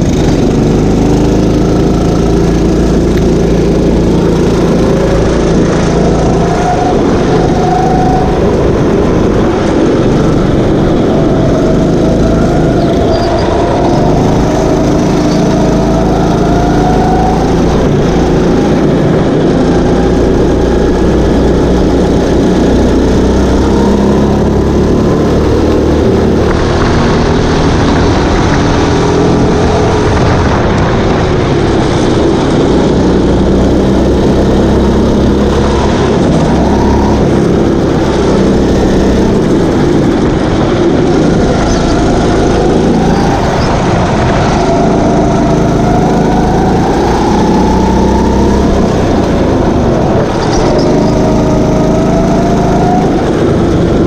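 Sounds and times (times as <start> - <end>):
go-kart engines racing: 0.0 - 54.0.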